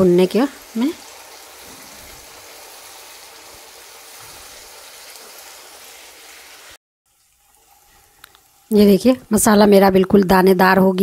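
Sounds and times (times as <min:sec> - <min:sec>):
paste sizzling in oil: 0:00.0 - 0:09.9.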